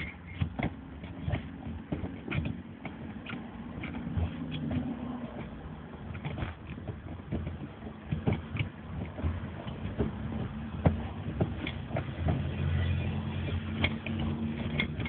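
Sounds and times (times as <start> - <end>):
creaks and short clicks: 0.0 - 15.0.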